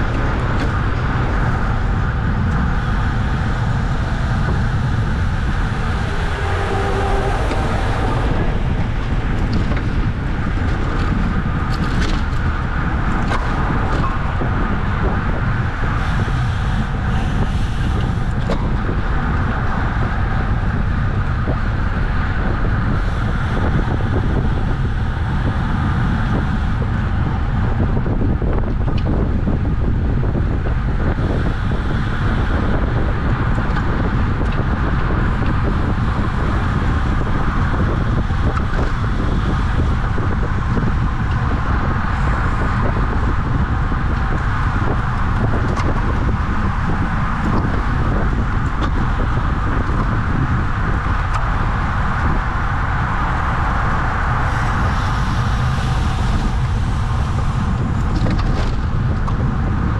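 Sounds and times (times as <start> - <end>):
road and tyre noise: 0.0 - 59.9
wind rumble on microphone: 0.0 - 59.9.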